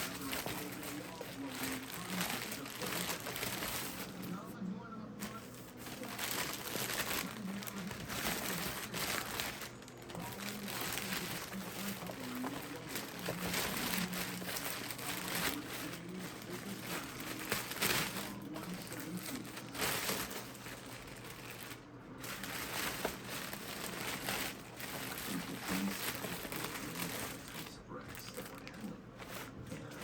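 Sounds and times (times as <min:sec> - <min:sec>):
packing paper rustling: 0:00.0 - 0:30.0.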